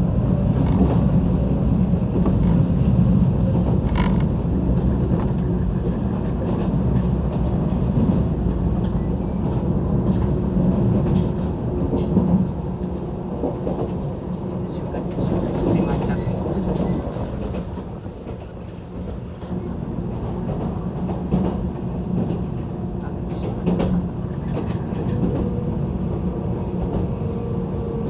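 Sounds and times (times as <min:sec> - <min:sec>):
train wheels rumbling: 0:00.0 - 0:27.9.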